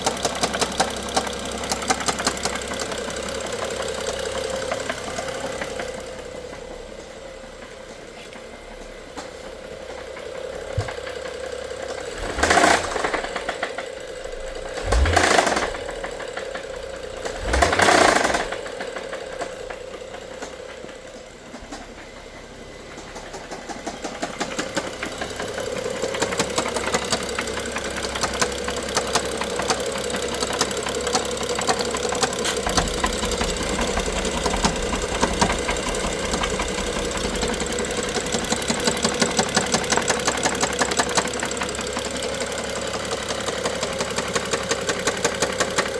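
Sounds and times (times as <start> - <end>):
car engine knocking: 0.0 - 45.9.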